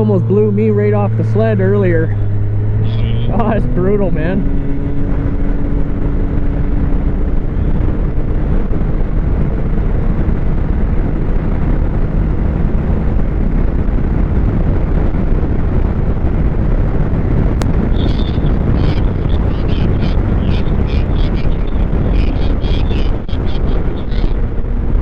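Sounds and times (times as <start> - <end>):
snowmobile engine humming: 0.0 - 10.4, 13.9 - 25.0
wind buffeting microphone: 0.0 - 25.0.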